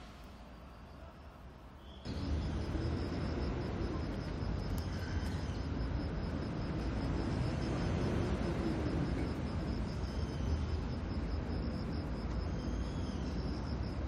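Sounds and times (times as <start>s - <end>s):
insect chirping: 0.0s - 14.0s.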